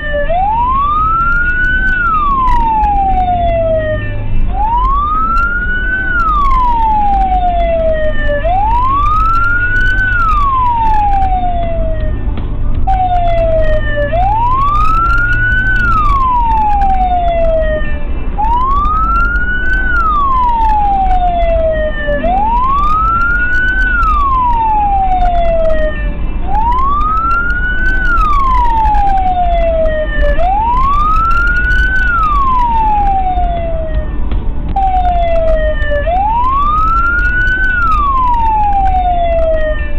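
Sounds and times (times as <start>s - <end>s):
car driving rumble: 0.0s - 39.9s
emergency siren wailing: 0.0s - 39.9s.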